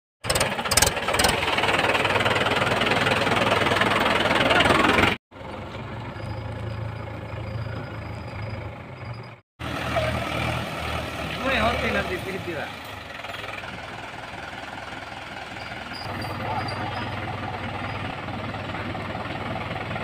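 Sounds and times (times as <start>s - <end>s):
tractor diesel engine running: 0.2s - 20.0s.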